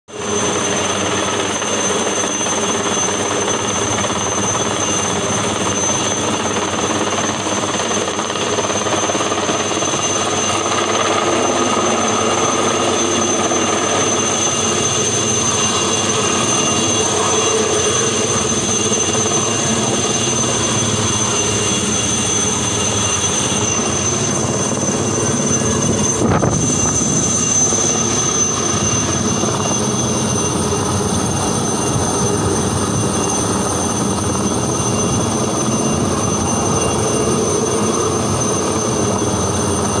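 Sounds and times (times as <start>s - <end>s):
helicopter engine whine: 0.1s - 40.0s
helicopter rotor noise: 0.1s - 40.0s.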